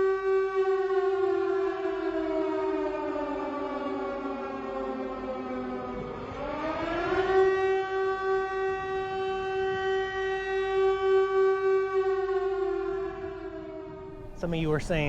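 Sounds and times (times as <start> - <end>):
siren-like wail: 0.6 - 15.0.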